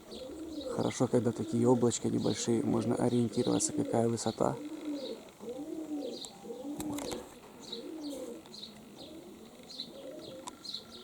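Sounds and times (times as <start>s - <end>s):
pigeons cooing: 0.0s - 11.0s
small birds chirping: 0.0s - 11.0s.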